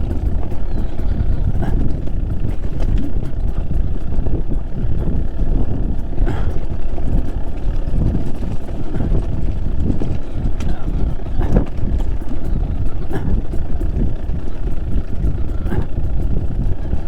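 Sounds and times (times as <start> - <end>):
motorcycle engine low rumble: 0.0 - 17.0.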